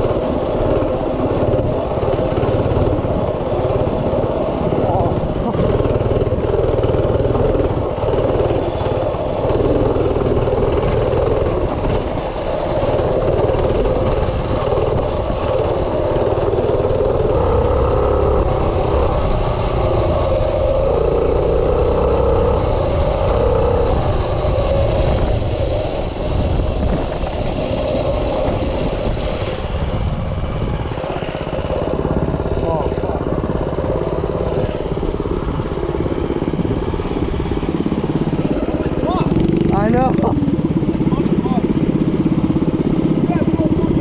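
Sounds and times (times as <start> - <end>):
minibike engine running: 0.0 - 44.0.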